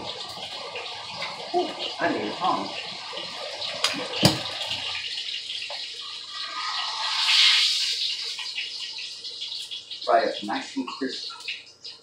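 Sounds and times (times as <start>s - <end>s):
oil sizzling in a skillet: 0.0s - 12.0s.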